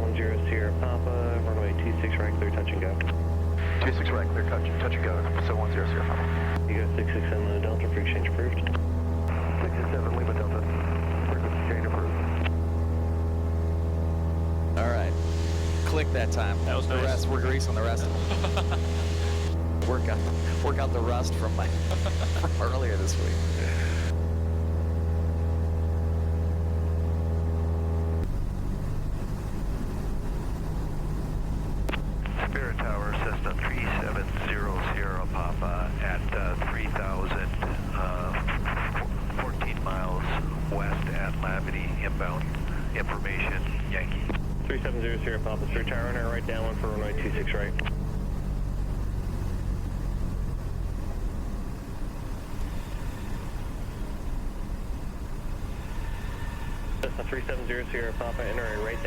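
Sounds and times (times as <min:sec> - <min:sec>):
airplane engine humming in cabin: 0:00.0 - 0:59.0.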